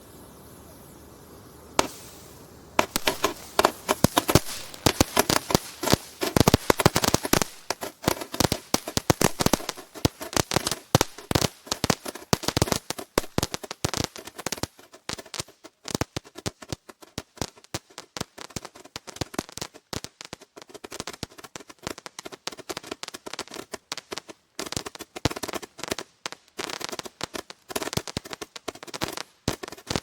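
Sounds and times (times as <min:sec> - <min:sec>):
firework bangs: 0:01.8 - 0:30.0.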